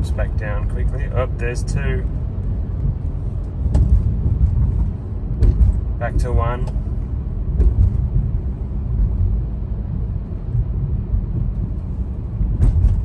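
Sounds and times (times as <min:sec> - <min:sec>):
car engine and road noise in cabin: 0:00.0 - 0:13.0.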